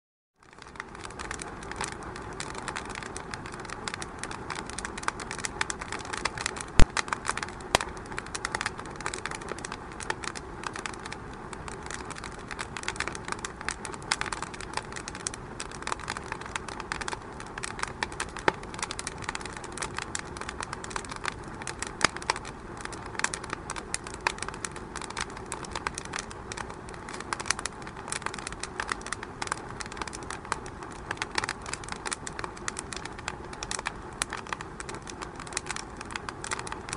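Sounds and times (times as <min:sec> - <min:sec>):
wood fire crackling: 0:00.4 - 0:36.9.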